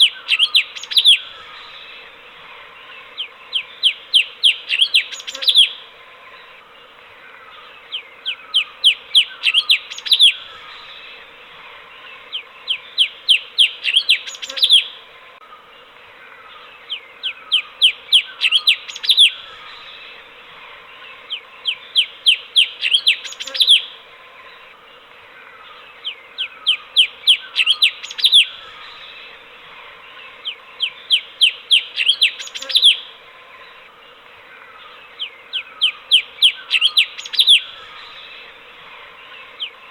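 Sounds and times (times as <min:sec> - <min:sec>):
bulbul singing: 0:00.0 - 0:06.6, 0:07.3 - 0:15.1, 0:15.8 - 0:39.9
background hiss: 0:00.0 - 0:39.9.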